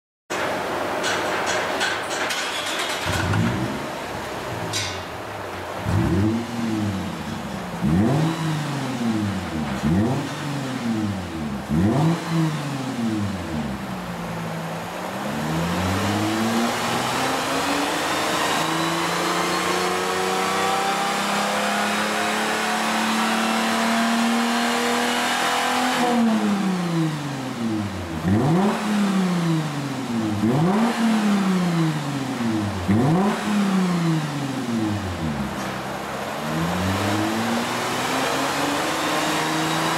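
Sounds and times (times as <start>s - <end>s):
car exhaust revving: 3.1s - 39.9s.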